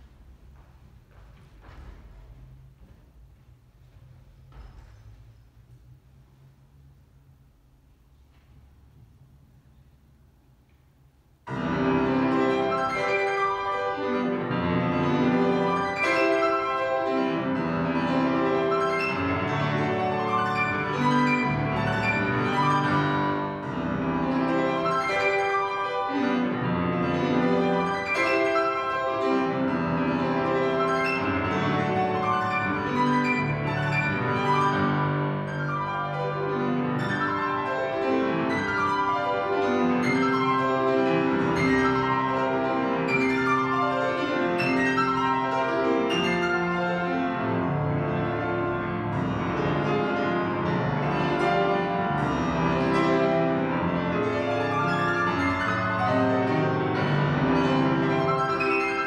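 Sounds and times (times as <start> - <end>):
classical piano piece: 0.0 - 59.0.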